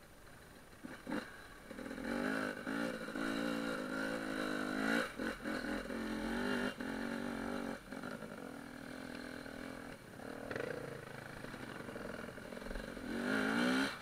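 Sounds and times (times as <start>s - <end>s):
motorcycle engine revving: 0.7s - 14.0s.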